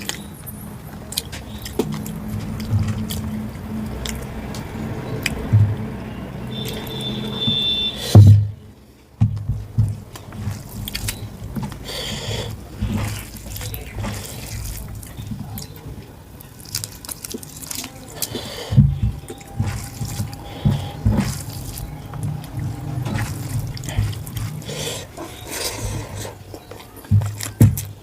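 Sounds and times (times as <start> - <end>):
wet chewing and smacking: 0.0 - 28.0.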